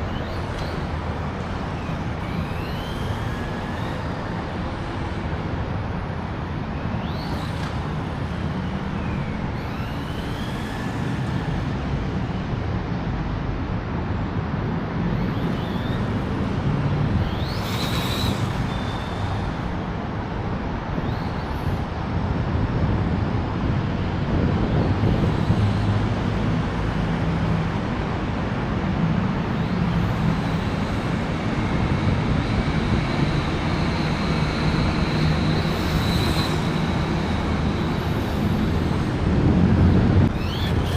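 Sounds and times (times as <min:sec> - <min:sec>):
rising and falling whines: 0:00.0 - 0:13.4, 0:14.4 - 0:40.9
road traffic rumble: 0:00.0 - 0:40.9.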